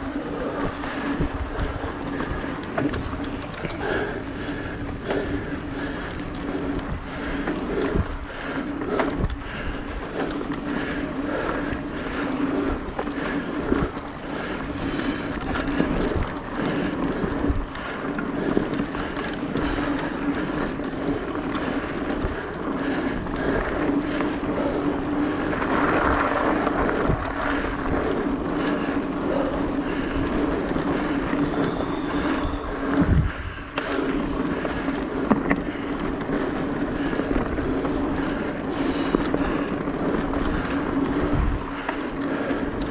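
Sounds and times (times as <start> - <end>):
bike knocks and rattles: 0.0 - 42.9
bike tyres rolling on dirt: 0.0 - 42.9.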